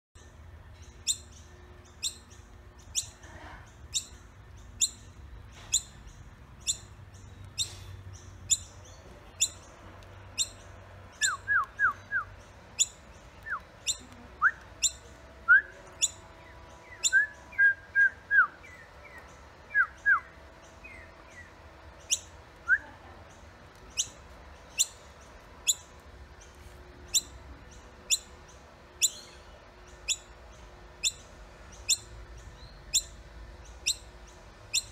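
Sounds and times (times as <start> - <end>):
baby bird peeping: 0.7 - 34.9.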